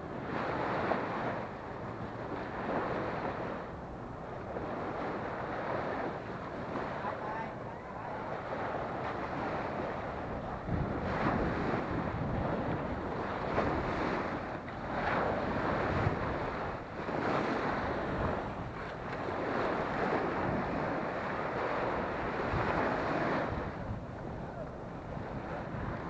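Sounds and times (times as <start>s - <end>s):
small waves washing ashore: 0.0s - 26.0s
wind buffeting microphone: 0.0s - 26.0s.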